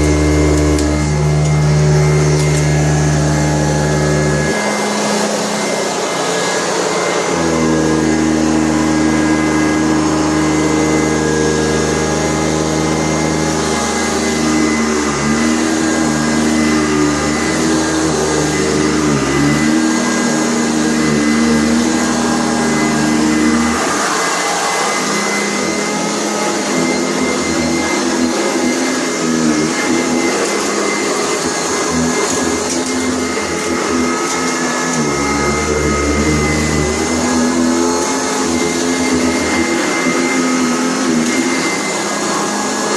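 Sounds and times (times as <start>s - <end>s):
vacuum cleaner motor drone: 0.0s - 42.9s.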